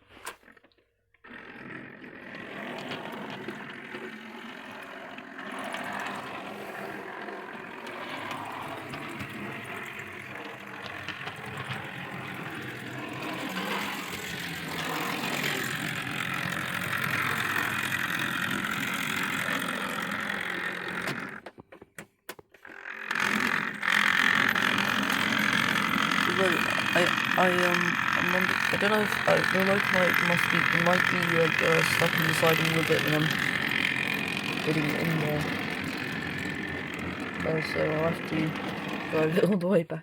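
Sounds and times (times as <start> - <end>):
model train motor whirring: 0.0 - 21.6, 22.5 - 39.8.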